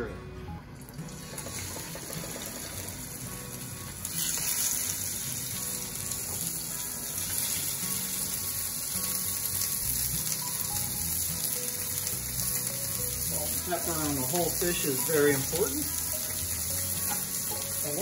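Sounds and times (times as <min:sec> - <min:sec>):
fish sizzling in hot oil: 0:01.1 - 0:18.0.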